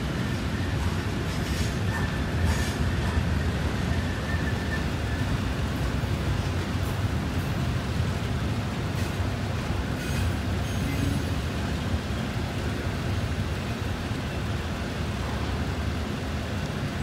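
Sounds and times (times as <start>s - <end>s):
steel wheels rumbling on rail: 0.0s - 17.0s.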